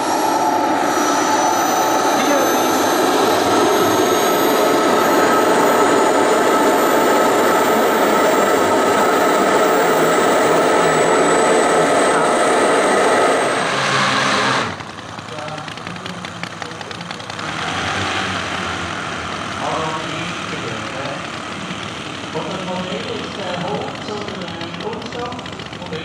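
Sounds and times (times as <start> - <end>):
jet turbine engine whistling: 0.0 - 26.0.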